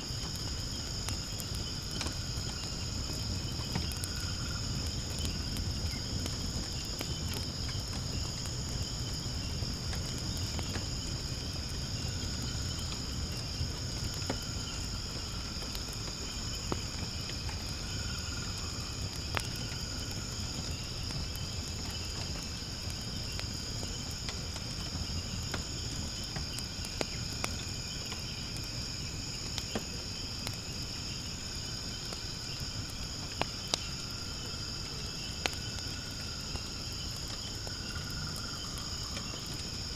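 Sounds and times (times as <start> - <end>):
crickets chirping: 0.0 - 39.9
firewood crackling and popping: 0.0 - 39.9
low rumble of flame: 0.0 - 39.9.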